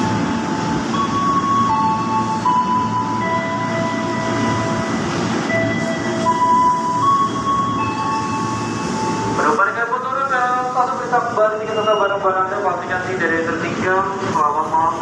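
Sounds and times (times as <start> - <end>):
train wheels rumbling on rails: 0.0 - 12.0
electric train whine: 0.0 - 15.0.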